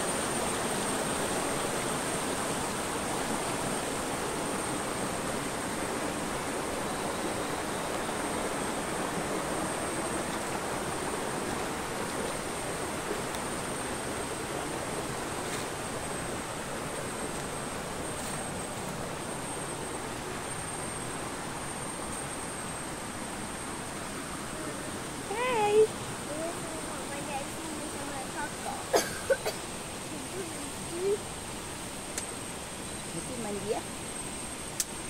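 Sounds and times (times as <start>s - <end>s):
stream rushing over rocks: 0.0s - 32.8s.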